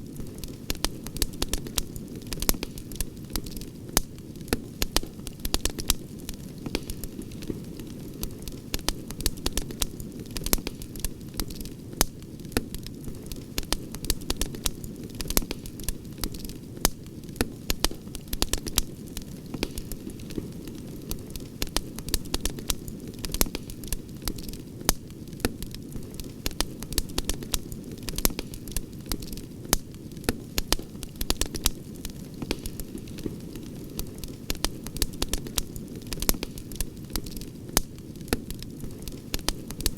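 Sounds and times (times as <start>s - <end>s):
low rumble of burning fire: 0.0s - 39.9s
campfire pops and snaps: 0.1s - 39.9s.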